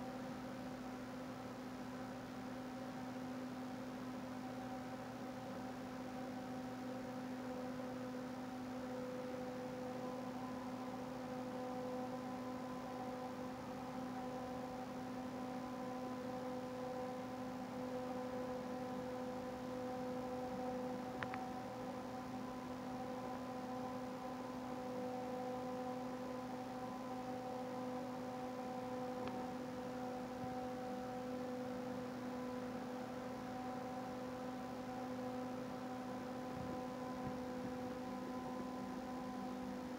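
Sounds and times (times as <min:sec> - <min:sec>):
steady multi-tone hum: 0:00.0 - 0:39.9.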